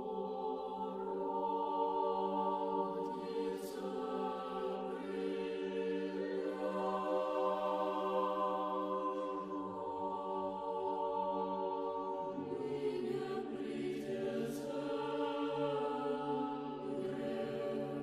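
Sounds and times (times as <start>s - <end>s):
choir singing a slow chant: 0.0s - 18.0s.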